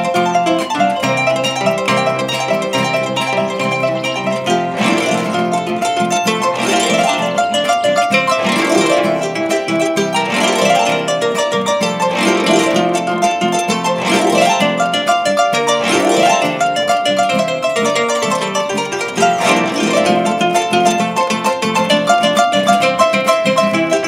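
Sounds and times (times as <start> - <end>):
harp music: 0.0 - 24.0.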